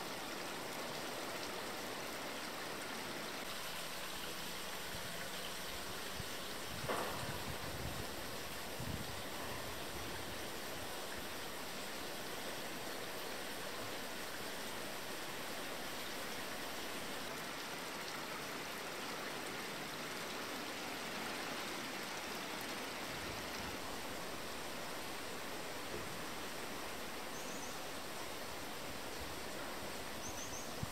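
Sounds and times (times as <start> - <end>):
rushing hiss of outdoor ambience: 0.0 - 30.9.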